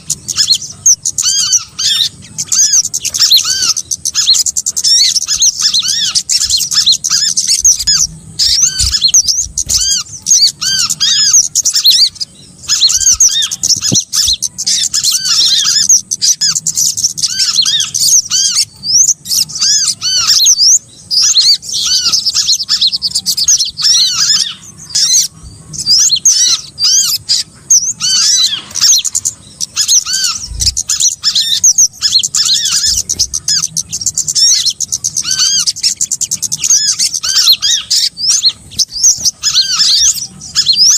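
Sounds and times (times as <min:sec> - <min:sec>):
songbirds chirping and chattering: 0:00.0 - 0:40.9.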